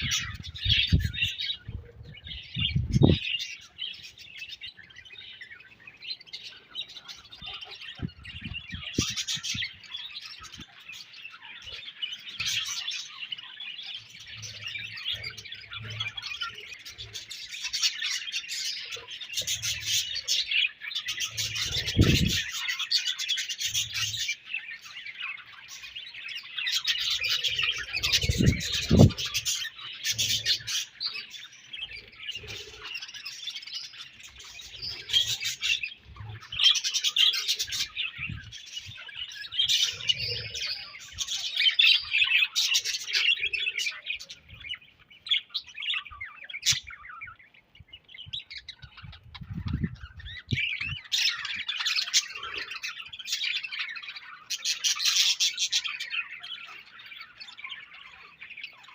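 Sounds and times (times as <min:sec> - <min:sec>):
budgerigars chirping and warbling: 0:00.0 - 0:58.9.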